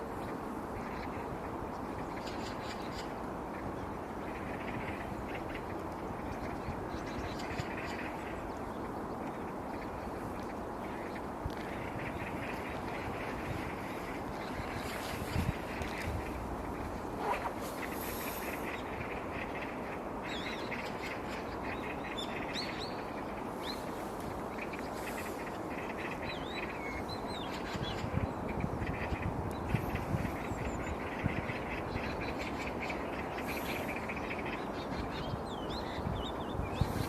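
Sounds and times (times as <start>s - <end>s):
birds chirping: 0.2s - 37.0s.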